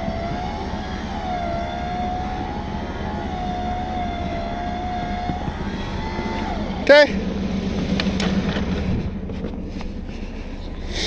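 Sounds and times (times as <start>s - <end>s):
low rumble: 0.0s - 11.0s
winch motor whine: 0.0s - 11.0s.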